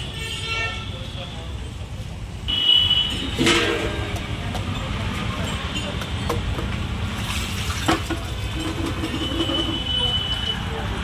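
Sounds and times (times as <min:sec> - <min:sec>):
low rumble of traffic: 0:00.0 - 0:11.0.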